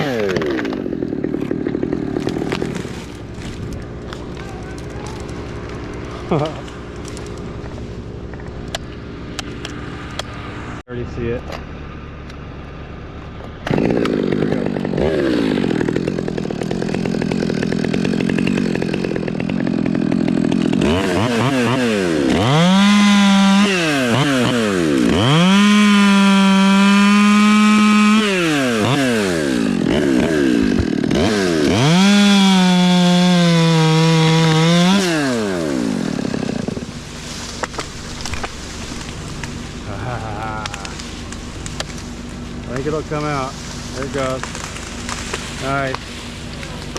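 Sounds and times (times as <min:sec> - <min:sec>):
chainsaw cutting wood: 0:00.0 - 0:10.5, 0:13.4 - 0:46.9.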